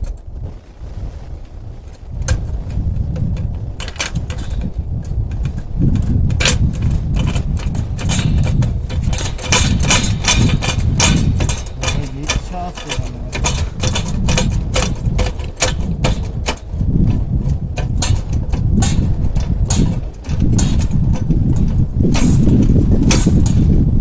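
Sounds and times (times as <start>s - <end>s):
low wind rumble on microphone: 0.0s - 24.0s
metal tools clanking on wheel: 2.4s - 23.6s.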